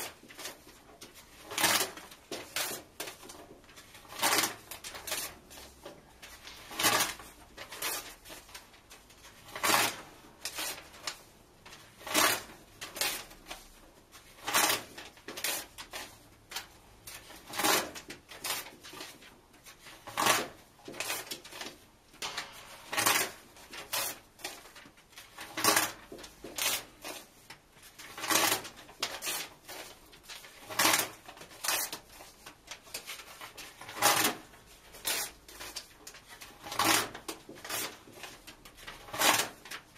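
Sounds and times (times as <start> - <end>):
book pages tearing: 0.0 - 39.9.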